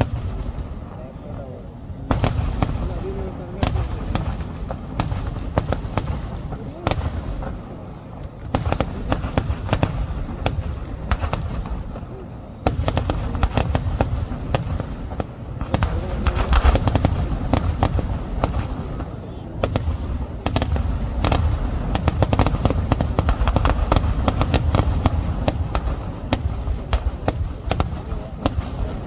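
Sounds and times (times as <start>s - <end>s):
fireworks bangs and crackles: 0.0s - 29.0s
fireworks rumble: 0.0s - 29.0s.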